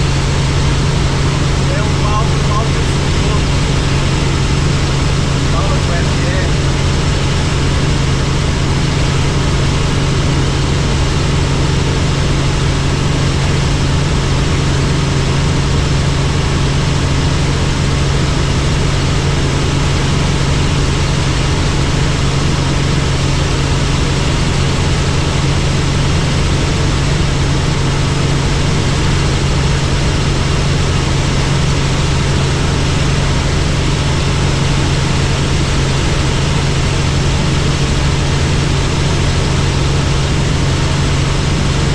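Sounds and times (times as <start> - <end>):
helicopter engine and rotor hum: 0.0 - 41.9.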